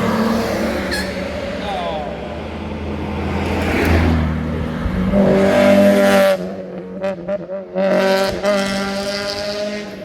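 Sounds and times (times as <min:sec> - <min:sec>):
performance car accelerating: 0:00.0 - 0:10.0.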